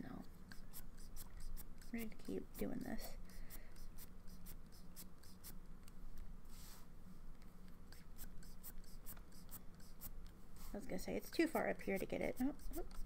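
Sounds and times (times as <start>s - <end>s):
pen nib scratching paper: 0.2s - 5.6s, 7.7s - 13.0s.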